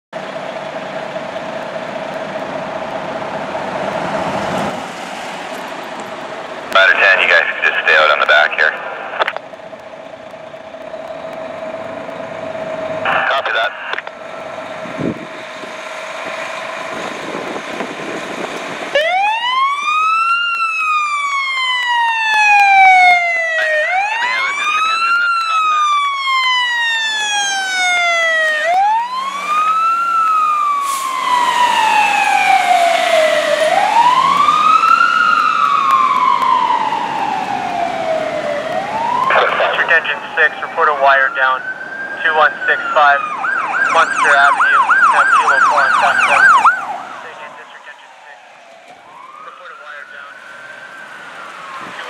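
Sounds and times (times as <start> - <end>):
truck engine rumble: 0.2 - 49.4
fire engine siren wailing: 0.2 - 52.0.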